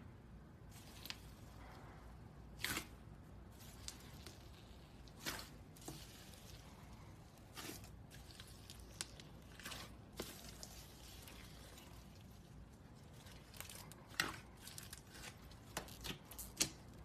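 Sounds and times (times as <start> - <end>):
slime squishing: 0.6 - 17.0.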